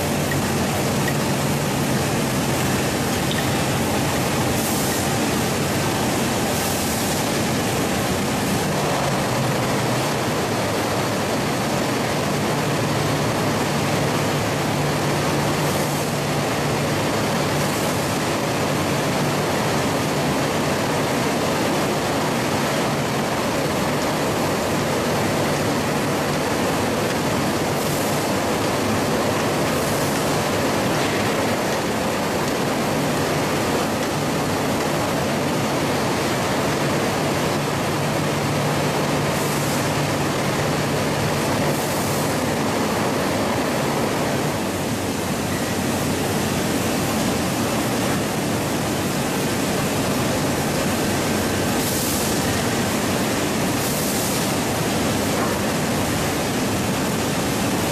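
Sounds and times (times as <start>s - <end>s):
machinery running: 0.0s - 57.9s.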